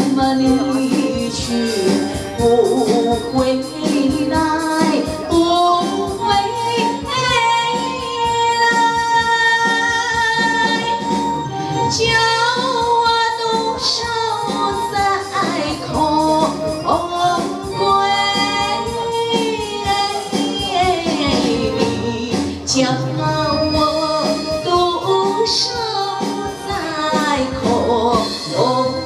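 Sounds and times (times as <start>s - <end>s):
woman singing opera: 0.0s - 11.1s, 11.8s - 29.0s
instrumental accompaniment with beat: 0.0s - 29.0s.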